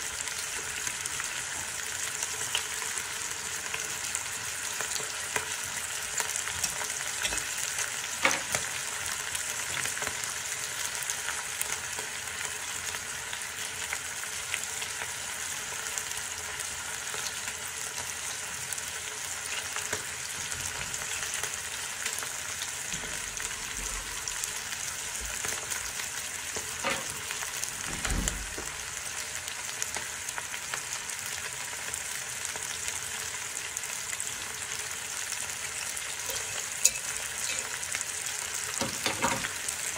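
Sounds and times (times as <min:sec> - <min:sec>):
meat and onions sizzling: 0:00.0 - 0:39.9.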